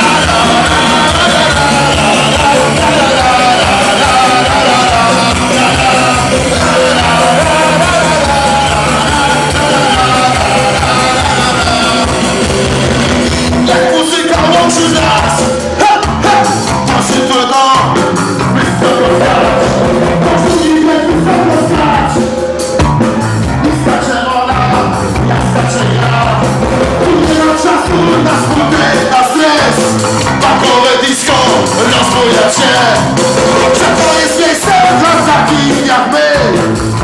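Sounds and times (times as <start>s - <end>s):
man singing into a microphone: 0.0s - 22.4s, 23.6s - 37.0s
bass guitar: 0.0s - 37.0s
drum kit: 0.0s - 37.0s
electric guitar: 0.0s - 37.0s.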